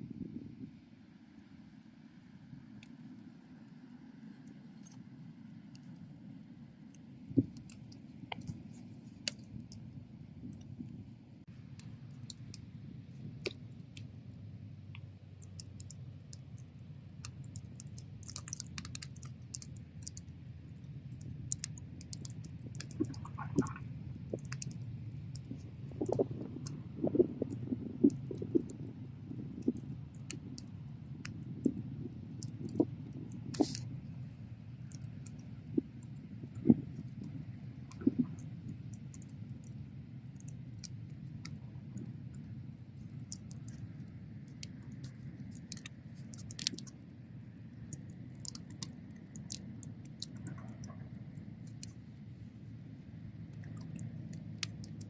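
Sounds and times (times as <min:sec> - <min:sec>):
fire crackling and popping: 0:07.3 - 0:52.4, 0:53.3 - 0:55.0.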